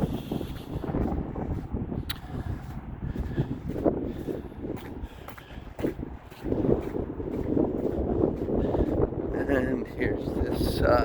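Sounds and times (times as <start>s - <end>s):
footsteps outdoors: 0.0s - 11.0s
wind rumbling on microphone: 0.0s - 11.0s.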